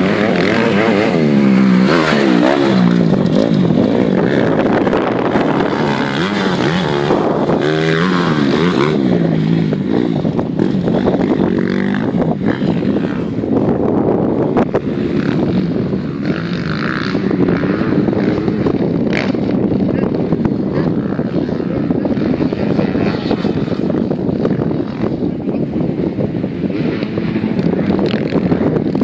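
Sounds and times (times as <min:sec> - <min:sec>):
motocross bike engine revving: 0:00.0 - 0:29.0.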